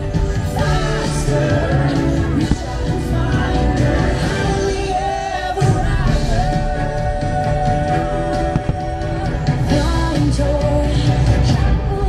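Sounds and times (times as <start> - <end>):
music with singing: 0.0 - 12.0.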